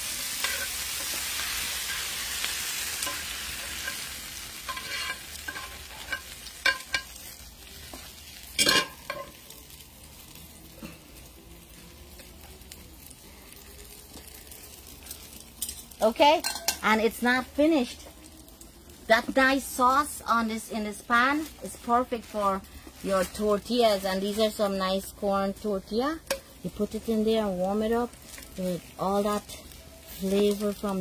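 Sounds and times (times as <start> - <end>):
peppers and onions sizzling: 0.0 - 31.0.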